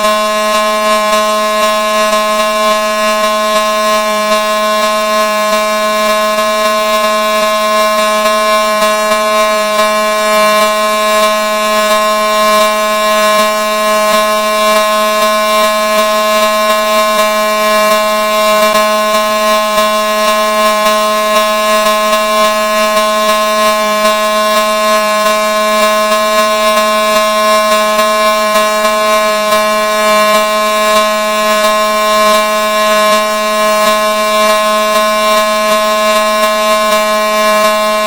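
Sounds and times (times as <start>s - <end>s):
siren steady horn tone: 0.0s - 38.0s.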